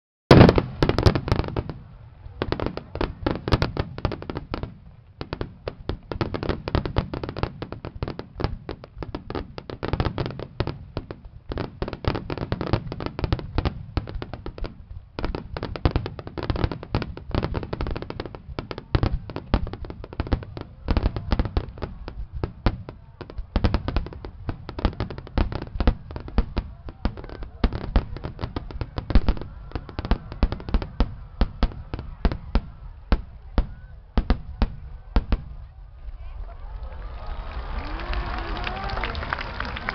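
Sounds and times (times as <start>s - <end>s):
fireworks booms and crackles: 0.3s - 36.3s.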